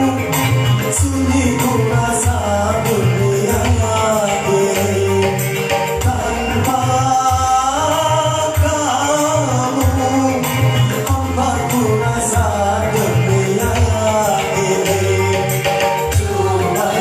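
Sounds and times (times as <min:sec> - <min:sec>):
band accompaniment: 0:00.0 - 0:17.0
person singing long notes: 0:00.0 - 0:17.0.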